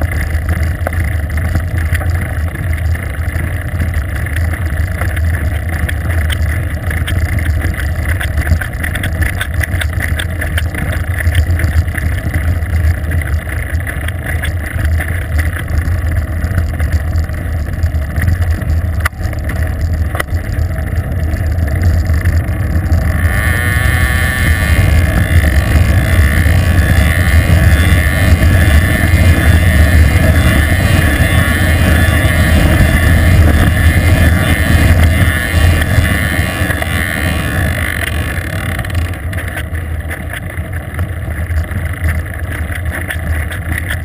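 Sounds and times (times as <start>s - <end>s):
wind and road rumble: 0.0s - 44.0s.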